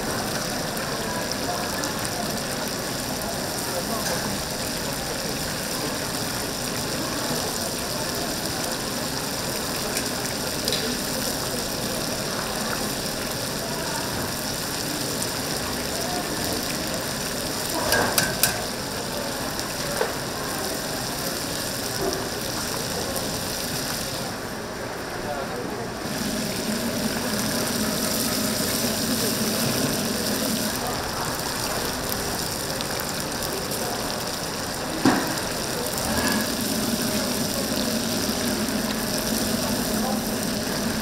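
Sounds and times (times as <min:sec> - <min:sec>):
chickens deep-frying in oil: 0:00.0 - 0:41.0.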